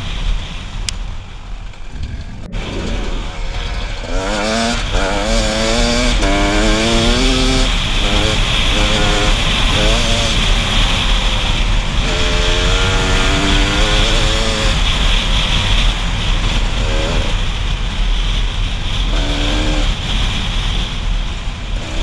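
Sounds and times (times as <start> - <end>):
dirt bike engine running: 0.0 - 22.0
wind and road noise: 0.0 - 22.0.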